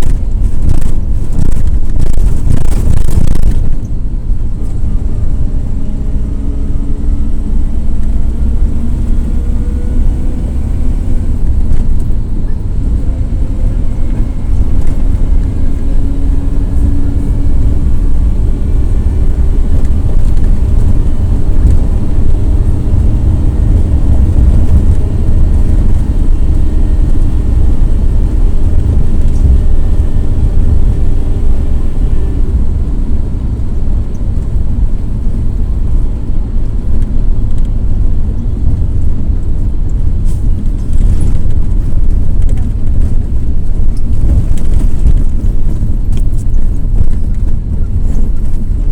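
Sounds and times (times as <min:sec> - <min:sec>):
diesel engine deep rumble: 0:00.0 - 0:48.9
differential whining: 0:00.0 - 0:48.9.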